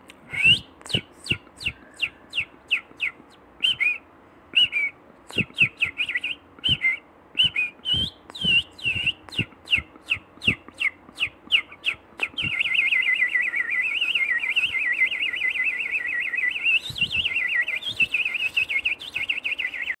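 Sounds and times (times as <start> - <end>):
songbird chirping and trilling: 0.5 - 20.0.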